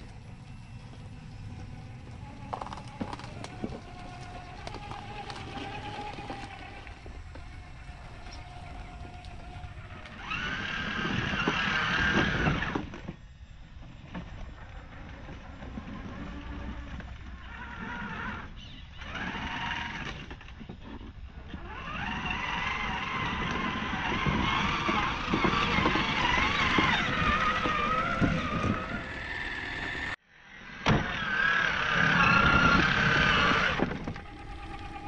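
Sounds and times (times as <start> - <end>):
electric motor whining: 0.0 - 30.2, 31.0 - 35.0.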